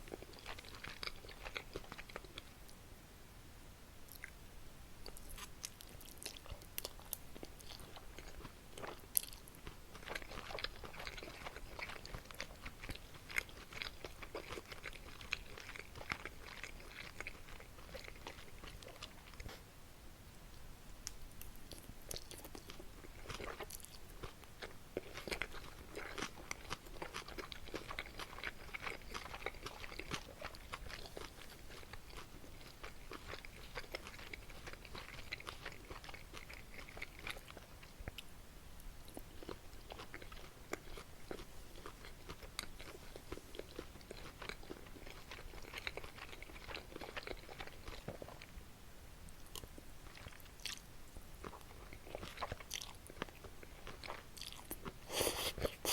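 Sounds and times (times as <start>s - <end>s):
close chewing and biting: 0.0s - 2.6s, 5.0s - 19.7s, 21.1s - 48.6s, 49.4s - 55.9s.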